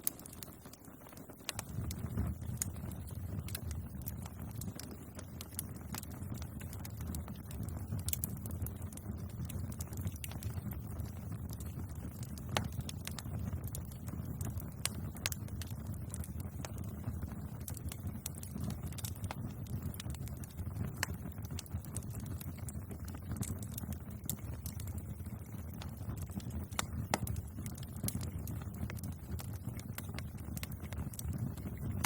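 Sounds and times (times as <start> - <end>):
burning wood popping and snapping: 0.0 - 32.0
low rumble of flames: 0.0 - 32.0.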